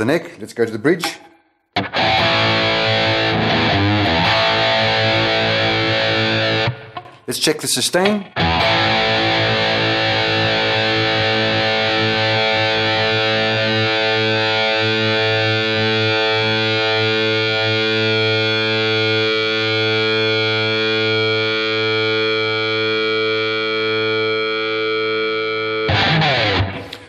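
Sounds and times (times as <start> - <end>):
overdriven electric guitar chord: 1.8 - 7.2, 8.3 - 27.0.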